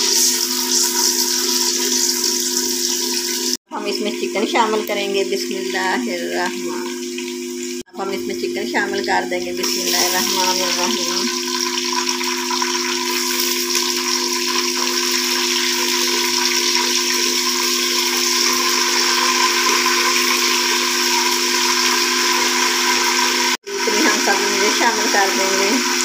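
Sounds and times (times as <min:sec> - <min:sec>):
chicken sizzling in hot oil: 0:00.0 - 0:03.6, 0:08.7 - 0:26.0.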